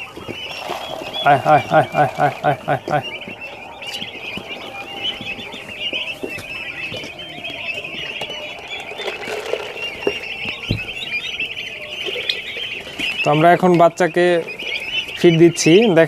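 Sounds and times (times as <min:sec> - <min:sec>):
turkey poults peeping: 0:00.0 - 0:16.0.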